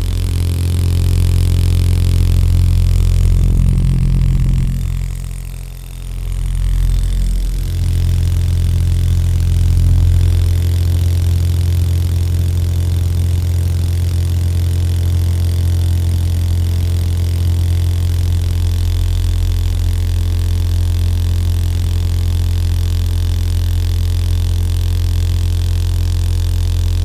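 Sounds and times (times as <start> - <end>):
low machine hum: 0.0 - 23.4.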